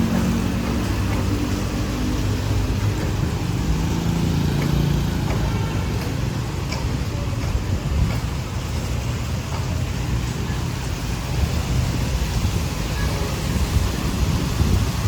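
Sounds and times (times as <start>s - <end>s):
engine hum: 0.0s - 15.0s
road traffic rumble: 0.0s - 15.0s.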